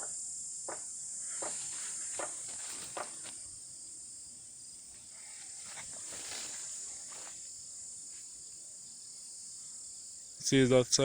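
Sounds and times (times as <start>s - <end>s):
insects chirping: 0.0s - 11.0s
soft noisy sounds nearby: 0.6s - 10.9s.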